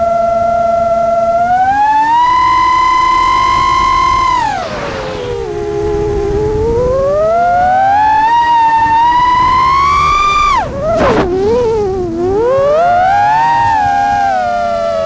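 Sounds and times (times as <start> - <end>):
drone motors whining: 0.0 - 15.0
rush of noise: 1.7 - 15.0.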